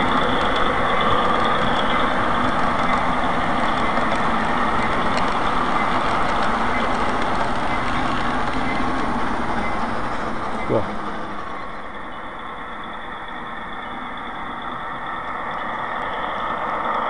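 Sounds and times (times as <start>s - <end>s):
model train cars rolling on track: 0.0s - 17.0s.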